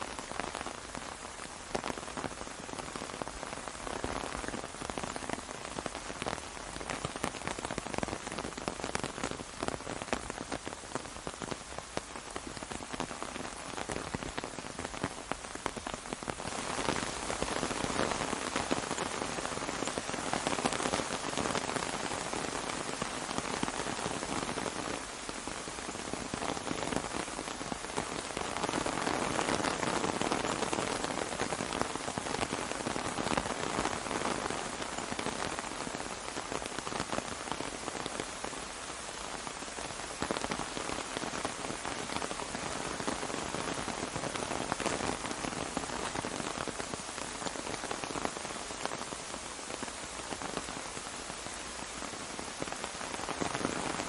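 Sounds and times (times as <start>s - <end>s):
rain falling on an umbrella: 0.0s - 54.0s.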